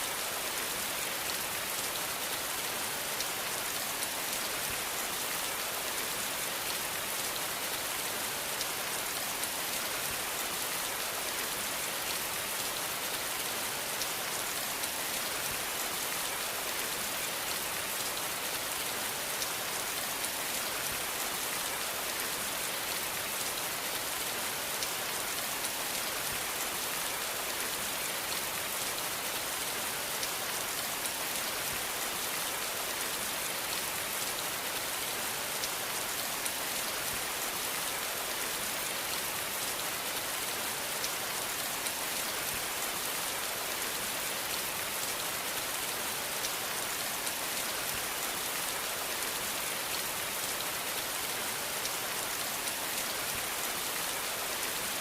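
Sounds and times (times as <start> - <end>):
rain falling on a surface: 0.0 - 55.0.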